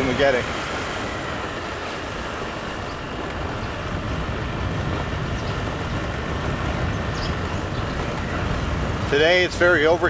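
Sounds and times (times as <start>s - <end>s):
wind and road rumble: 0.0s - 10.0s.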